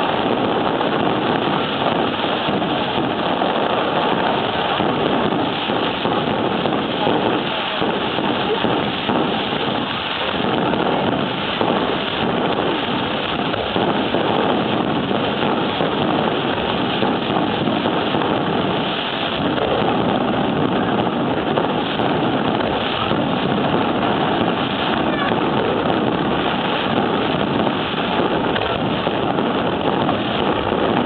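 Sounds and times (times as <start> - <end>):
fireworks bursts and crackles: 0.0 - 31.0.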